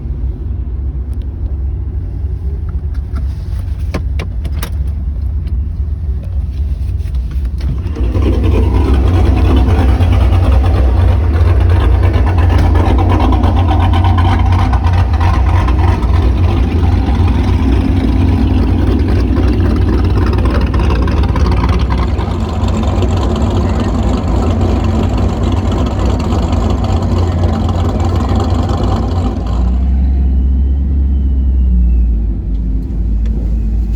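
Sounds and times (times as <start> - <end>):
car engine and exhaust rumbling: 0.0 - 33.9.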